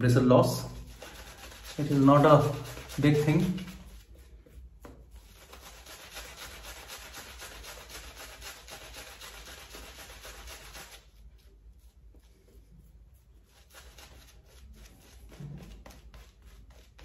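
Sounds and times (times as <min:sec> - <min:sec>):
shaving brush scrubbing skin: 0:00.1 - 0:17.0.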